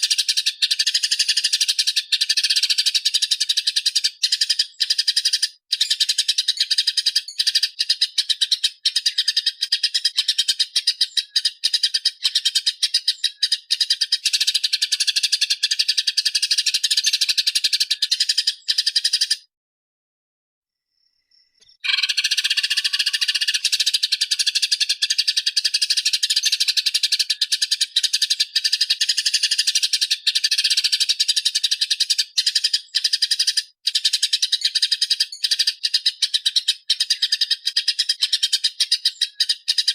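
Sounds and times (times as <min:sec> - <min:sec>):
songbird chattering calls: 0:00.0 - 0:19.5, 0:21.5 - 0:39.9.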